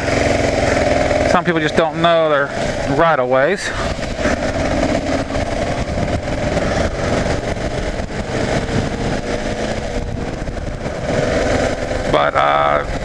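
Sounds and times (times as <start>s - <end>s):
motorcycle engine running: 0.0s - 13.0s
wet road noise: 0.0s - 13.0s
wind rushing: 2.5s - 13.0s.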